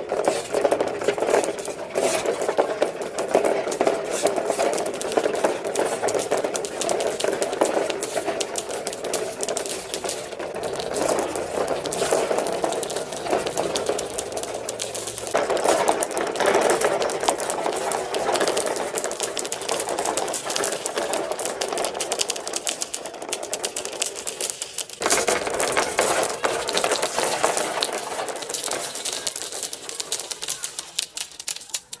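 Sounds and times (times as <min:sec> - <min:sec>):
marbles rattling down plastic ramps: 0:00.0 - 0:32.0.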